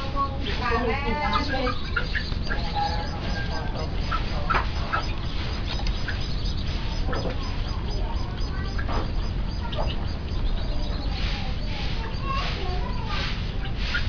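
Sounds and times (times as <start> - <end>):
low rumble: 0.0 - 13.9
fowl clucking and calling: 0.0 - 14.0.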